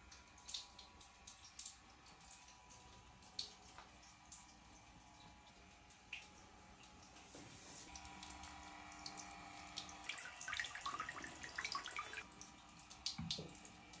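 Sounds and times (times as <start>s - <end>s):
water splashing into bathwater: 0.0s - 14.0s.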